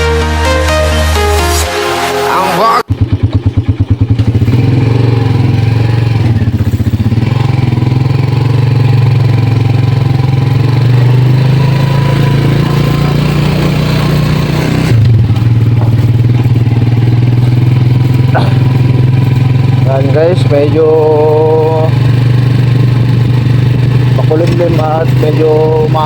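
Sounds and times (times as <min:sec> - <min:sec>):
motorcycle engine running: 0:02.8 - 0:26.0.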